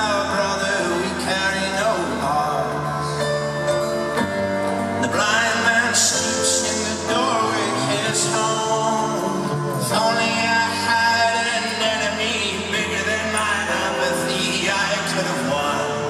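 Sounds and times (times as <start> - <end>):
man singing: 0.0 - 3.9, 4.9 - 16.0
folk-rock band playing: 0.0 - 16.0.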